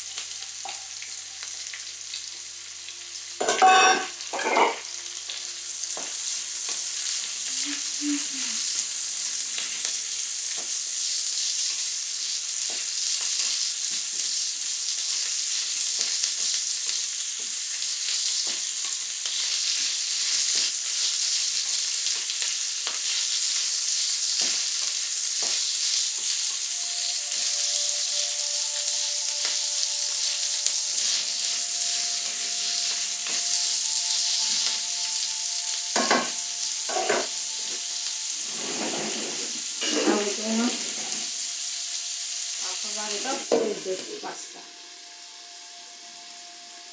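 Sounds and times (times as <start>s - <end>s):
onions sizzling in oil: 0.0s - 46.9s.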